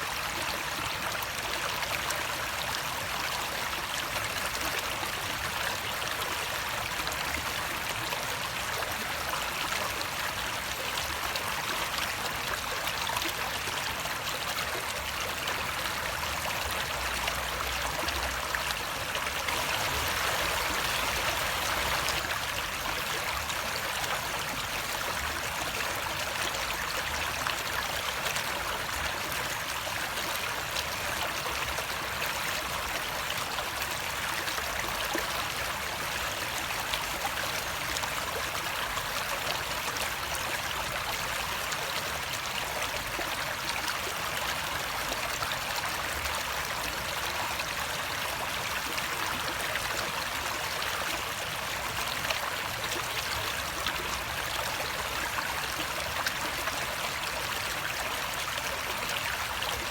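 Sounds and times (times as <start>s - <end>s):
running water: 1.3s - 59.9s.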